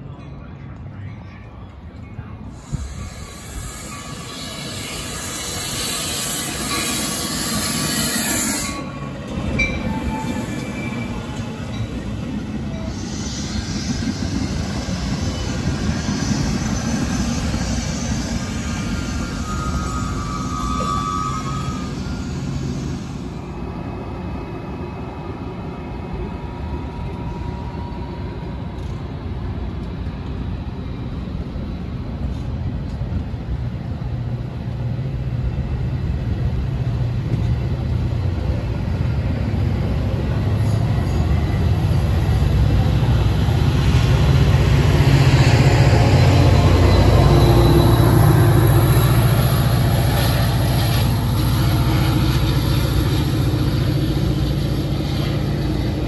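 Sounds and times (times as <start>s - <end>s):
diesel locomotive: 0.0s - 56.0s
train wheels rumbling on rail: 0.0s - 56.0s.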